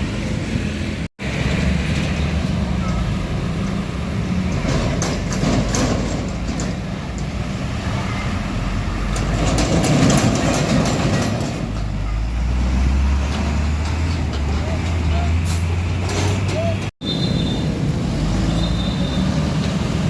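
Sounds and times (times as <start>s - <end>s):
heavy trucks driving past: 0.0s - 20.0s.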